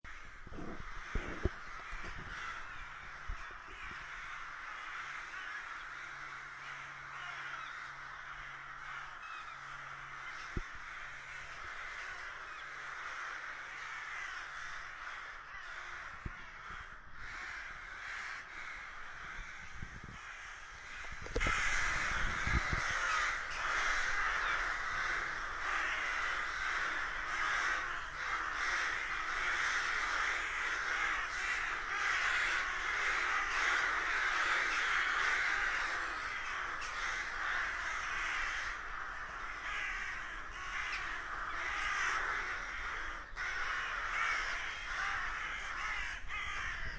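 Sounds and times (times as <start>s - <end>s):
crows cawing: 0.0s - 46.9s.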